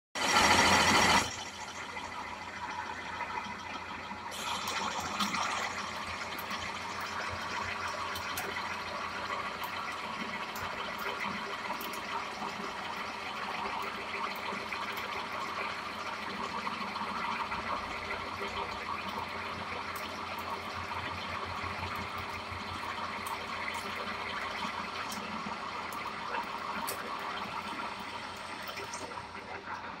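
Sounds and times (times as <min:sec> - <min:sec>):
lathe drive hum: 0:00.2 - 0:30.0.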